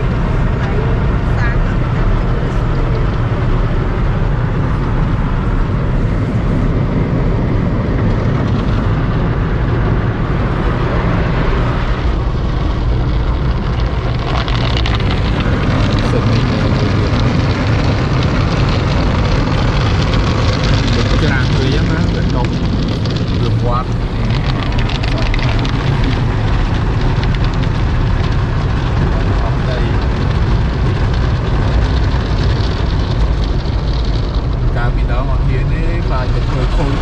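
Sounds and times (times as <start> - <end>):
car wash machinery rumbling: 0.0 - 37.0.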